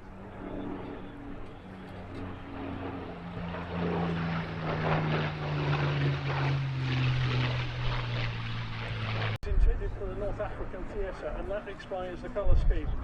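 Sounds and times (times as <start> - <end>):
propeller plane engine flying past: 0.0 - 13.0.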